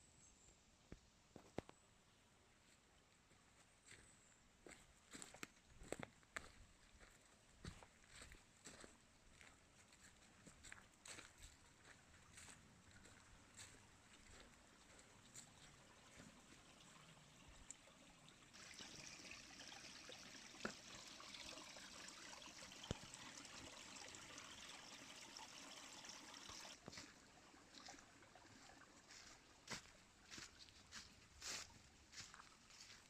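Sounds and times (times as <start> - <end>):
stream trickling: 4.7 - 33.0.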